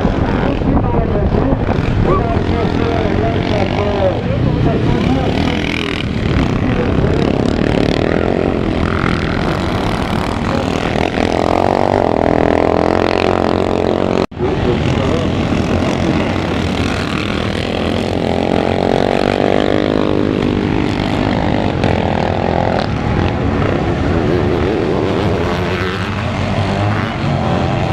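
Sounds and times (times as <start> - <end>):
motocross engines racing: 0.0 - 27.9
motorbike passing: 0.0 - 27.9.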